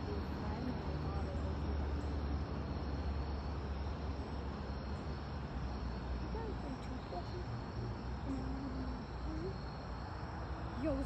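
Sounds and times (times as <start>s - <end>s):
crickets trilling: 0.0s - 11.0s
distant voices: 0.0s - 11.0s.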